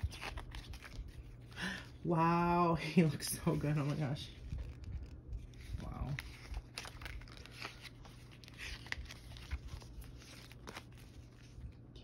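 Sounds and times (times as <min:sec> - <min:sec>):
paper pages rustling and flicking: 0:00.0 - 0:02.0, 0:02.8 - 0:12.0.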